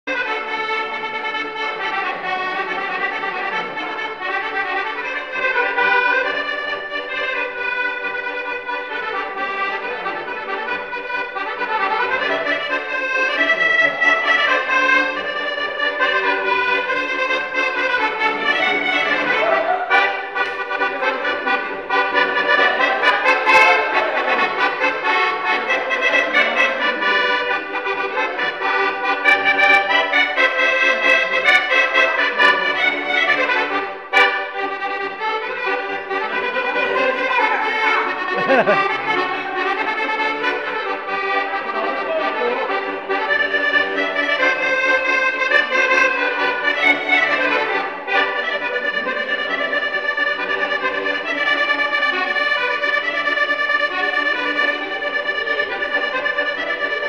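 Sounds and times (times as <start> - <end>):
accordions playing a polka: 0.0 - 57.0.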